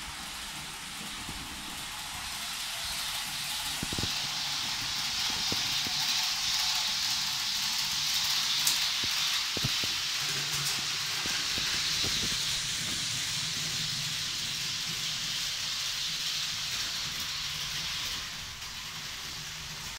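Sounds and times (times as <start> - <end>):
model train wheels on track: 0.0 - 19.9.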